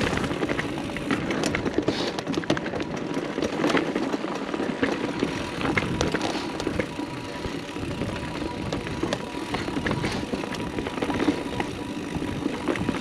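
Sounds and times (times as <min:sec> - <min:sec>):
bike clicks and rattles: 0:00.0 - 0:13.0
bike tyres on dirt: 0:00.0 - 0:13.0.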